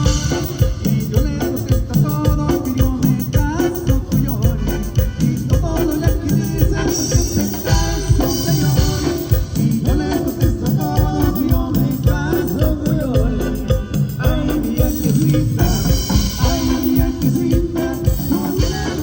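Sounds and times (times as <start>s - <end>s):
drums keeping a steady beat: 0.0s - 19.0s
live band playing dance music: 0.0s - 19.0s.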